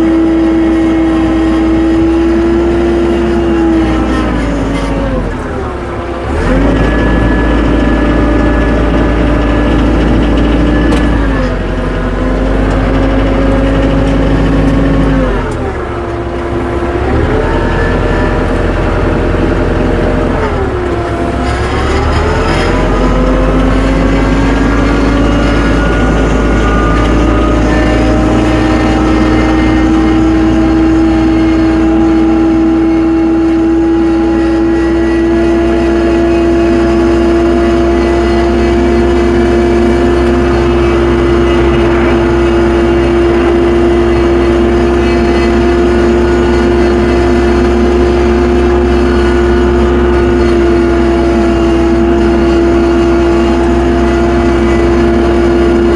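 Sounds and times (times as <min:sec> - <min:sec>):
tractor engine revving: 0:00.0 - 0:55.9.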